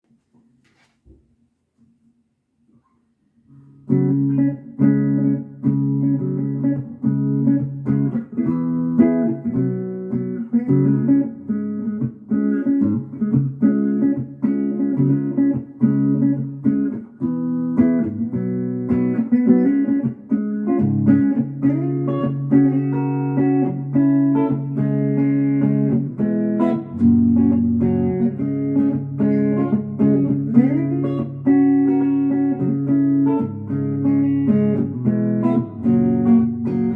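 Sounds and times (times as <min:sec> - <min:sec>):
electric guitar playing: 0:03.5 - 0:36.9.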